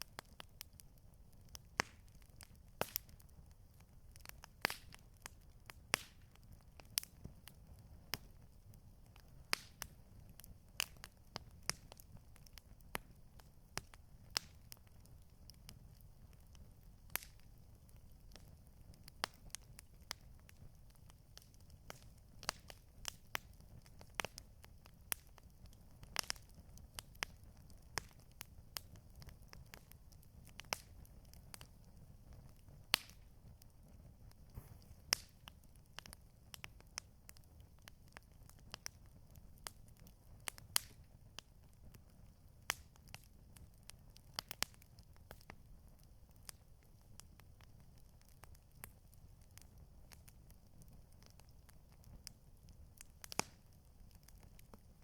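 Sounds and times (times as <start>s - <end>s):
campfire crackling: 0.0s - 55.0s
low fire rumble: 0.0s - 55.0s.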